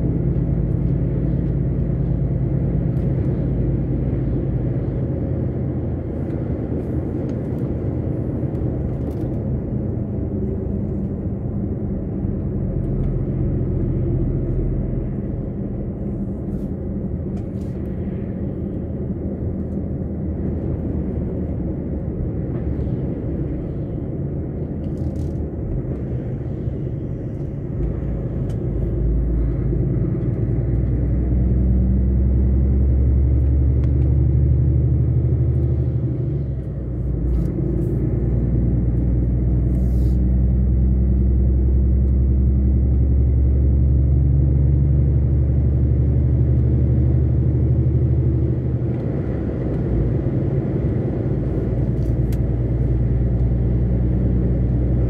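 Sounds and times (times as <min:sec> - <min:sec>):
truck engine rumble: 0:00.0 - 0:55.0.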